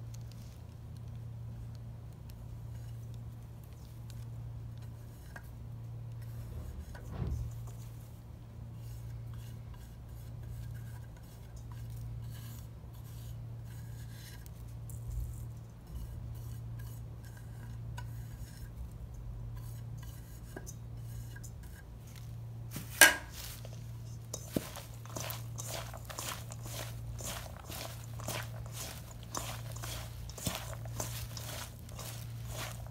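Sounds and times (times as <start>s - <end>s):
hands mixing food in a bowl: 0.0s - 32.9s
steady low hum: 0.0s - 32.9s.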